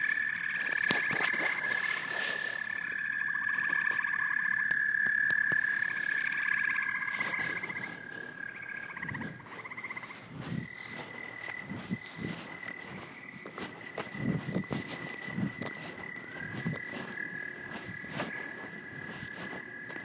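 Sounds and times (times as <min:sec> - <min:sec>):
frogs calling in chorus: 0:00.0 - 0:20.0.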